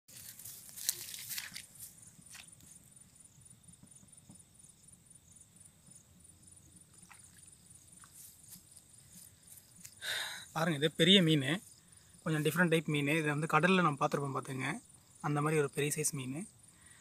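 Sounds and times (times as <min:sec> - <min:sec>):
crickets trilling: 0:00.1 - 0:17.0.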